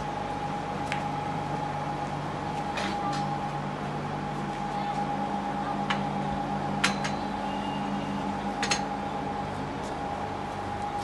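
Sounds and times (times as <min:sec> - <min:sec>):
workshop hum: 0:00.0 - 0:11.0.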